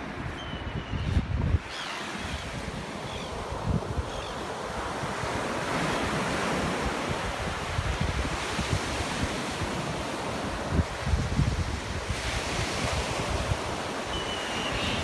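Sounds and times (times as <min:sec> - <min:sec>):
wind buffeting microphone: 0:00.0 - 0:15.0
surf washing onto beach: 0:01.2 - 0:15.0.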